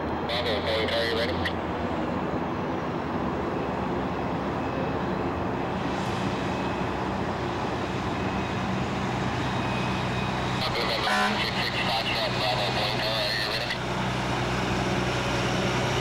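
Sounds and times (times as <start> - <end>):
fire truck diesel engine running: 0.0 - 16.0.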